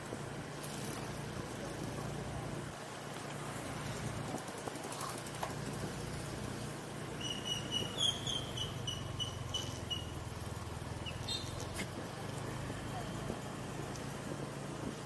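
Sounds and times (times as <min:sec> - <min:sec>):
motorbike running: 0:00.0 - 0:15.0.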